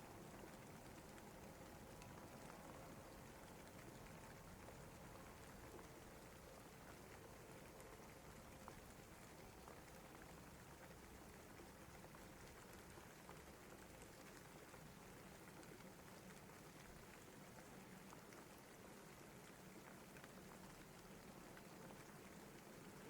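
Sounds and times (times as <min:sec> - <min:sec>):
faint steady rain: 0:00.0 - 0:23.0.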